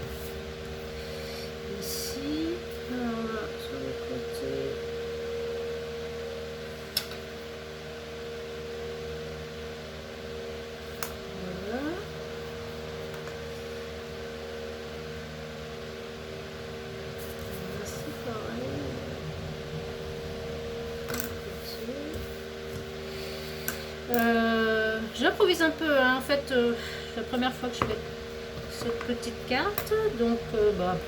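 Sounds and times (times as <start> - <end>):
electric fan humming: 0.0 - 31.0.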